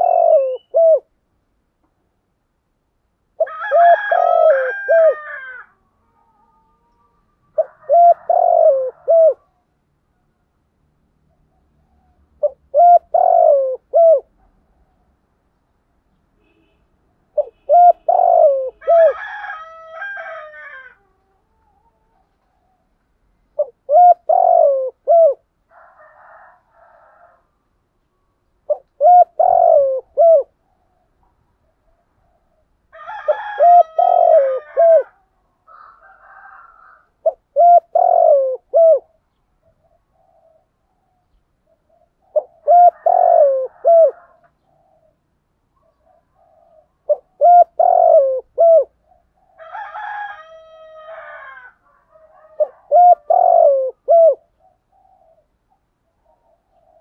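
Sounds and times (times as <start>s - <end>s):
dove cooing: 0.0s - 1.2s, 3.4s - 9.7s, 11.3s - 15.2s, 17.4s - 22.9s, 23.5s - 27.4s, 28.6s - 57.0s.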